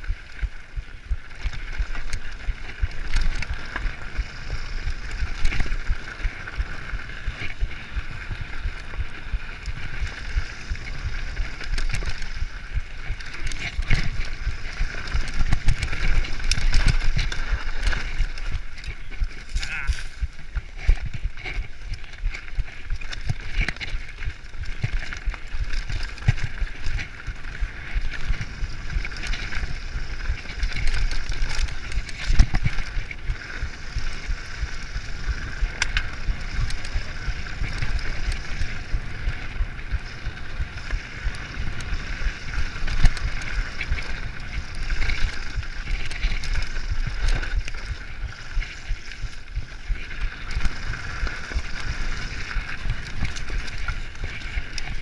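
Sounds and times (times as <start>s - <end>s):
bike rattles and knocks: 0.0s - 55.0s
bike tyres rumbling on dirt: 0.0s - 55.0s.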